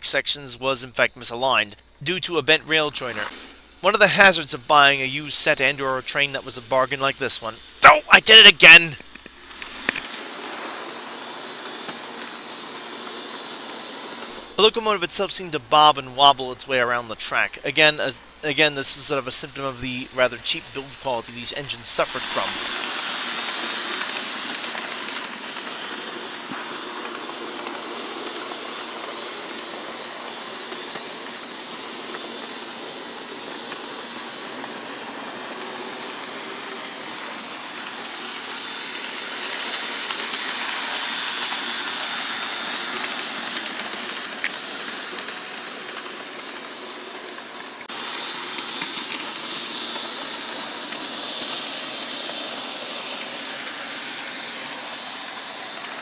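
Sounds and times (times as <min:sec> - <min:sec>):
model train motor whirring: 0:00.0 - 0:56.0
wheels running on rails: 0:00.9 - 0:56.0.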